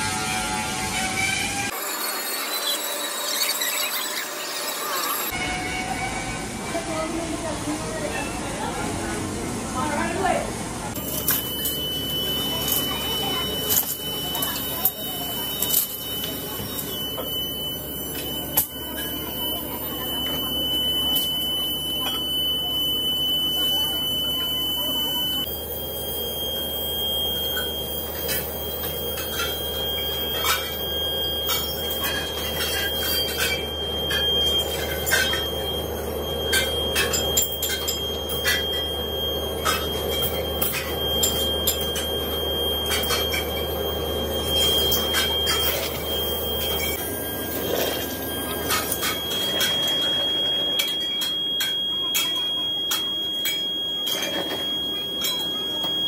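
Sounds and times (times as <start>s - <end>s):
steady high whine: 10.8s - 56.0s.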